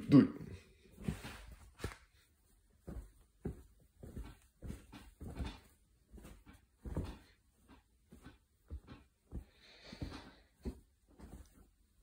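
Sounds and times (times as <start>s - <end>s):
fabric rustling: 0.6s - 12.0s.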